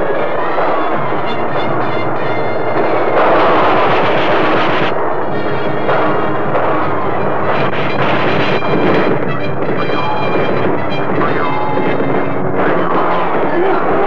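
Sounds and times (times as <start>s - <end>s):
gunfire bangs: 0.0s - 14.0s
orchestral music: 0.0s - 14.0s.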